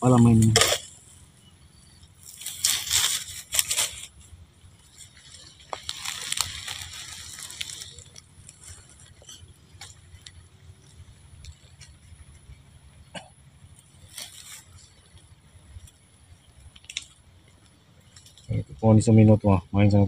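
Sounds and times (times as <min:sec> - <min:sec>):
dry leaves crunching underfoot: 0:00.1 - 0:13.0, 0:13.7 - 0:18.6.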